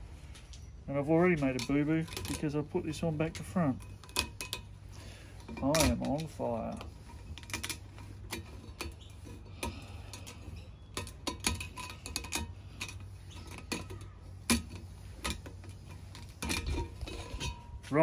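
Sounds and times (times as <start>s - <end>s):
metal gasket clinking: 1.2s - 18.0s.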